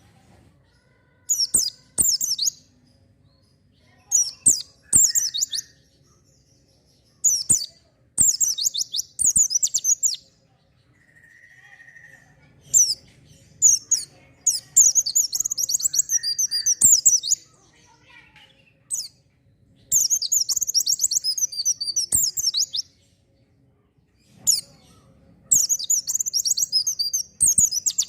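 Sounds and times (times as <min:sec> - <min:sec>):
bird twittering high-pitched: 0:01.2 - 0:23.2, 0:24.2 - 0:28.0.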